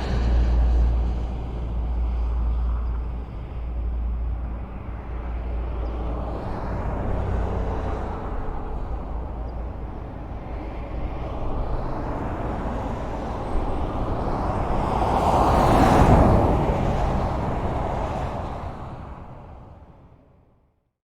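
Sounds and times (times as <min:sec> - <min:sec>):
vehicle passing close: 0:00.0 - 0:19.9
highway traffic rumble: 0:00.0 - 0:20.7.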